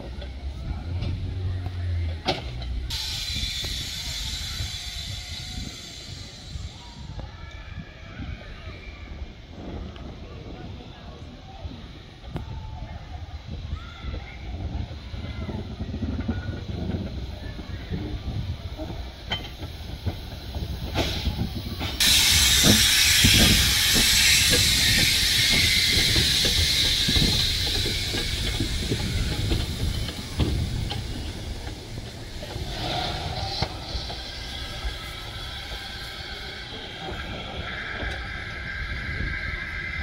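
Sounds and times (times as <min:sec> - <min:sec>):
steam locomotive rumbling: 0:00.0 - 0:40.0
loud hiss of steam: 0:02.5 - 0:40.0.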